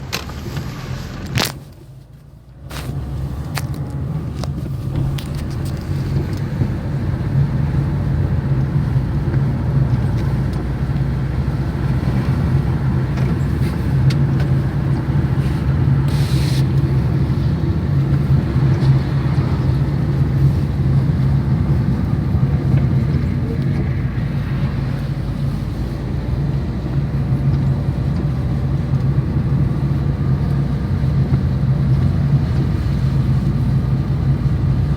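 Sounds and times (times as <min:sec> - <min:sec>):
car engine drone: 0:00.0 - 0:34.9
road rumble: 0:00.0 - 0:34.9.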